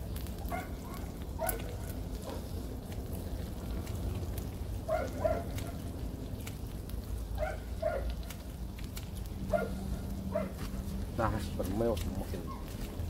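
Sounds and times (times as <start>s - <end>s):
low wind rumble: 0.0s - 13.0s
meat sizzling on a grill: 0.0s - 13.0s.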